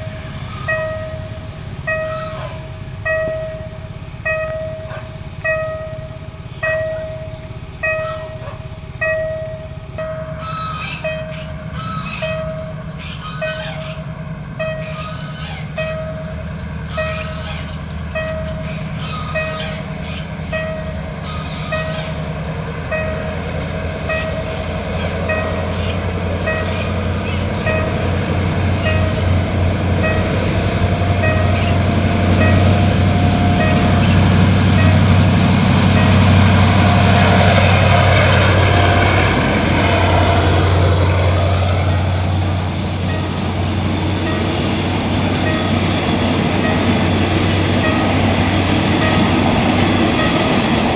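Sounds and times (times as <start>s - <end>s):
level crossing warning bell: 0.0s - 15.1s, 15.7s - 50.9s
diesel train passing: 0.0s - 50.9s.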